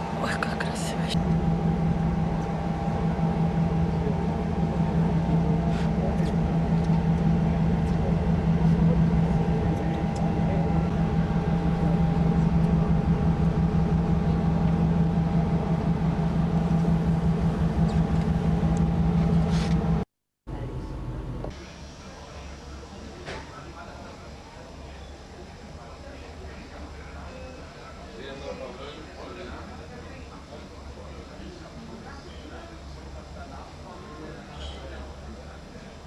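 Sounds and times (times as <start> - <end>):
machinery high hum: 0.0 - 36.0
ship engine low drone: 0.0 - 36.0.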